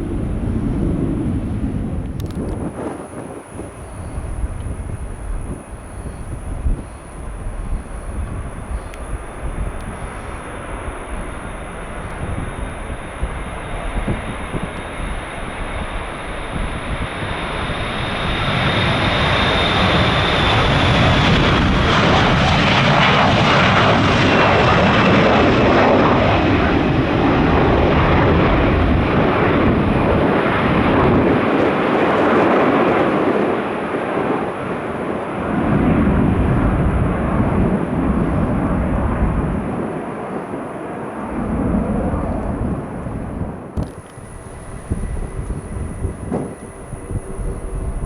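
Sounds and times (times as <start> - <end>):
high engine whine: 0.0 - 33.4, 40.7 - 48.0
jet engines roaring: 0.0 - 48.0
wind buffeting microphone: 0.0 - 48.0.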